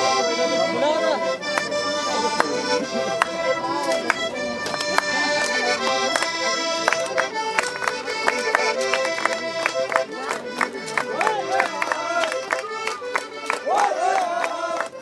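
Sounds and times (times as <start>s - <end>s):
accordion folk dance tune: 0.0s - 15.0s
sharp hand claps: 1.5s - 1.7s, 3.2s - 15.0s.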